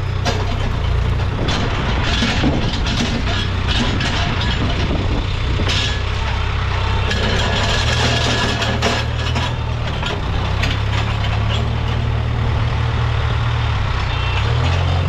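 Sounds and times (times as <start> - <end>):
diesel engine running: 0.0 - 15.0
knocks and clatter: 0.1 - 12.4, 14.0 - 15.0.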